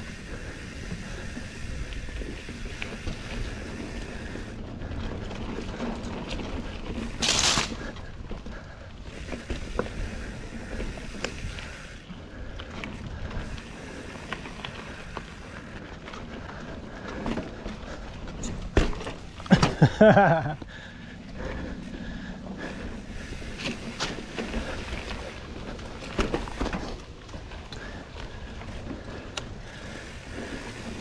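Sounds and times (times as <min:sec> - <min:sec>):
bike clicks and rattles: 0:00.0 - 0:31.0
bike tyres on rocky trail: 0:00.0 - 0:31.0.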